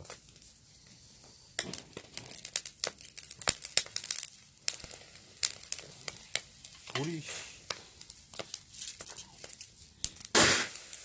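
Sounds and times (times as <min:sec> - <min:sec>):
fat crackling on charcoal grill: 0:00.0 - 0:11.0.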